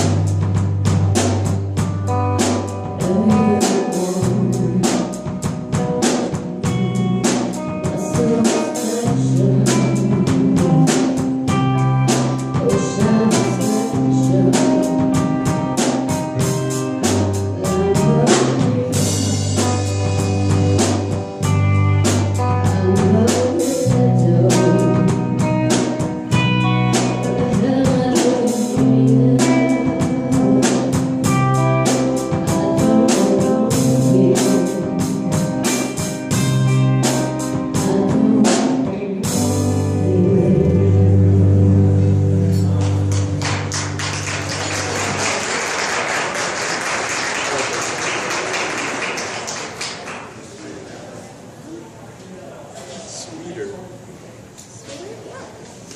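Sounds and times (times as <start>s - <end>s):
live band playing: 0.0s - 50.5s.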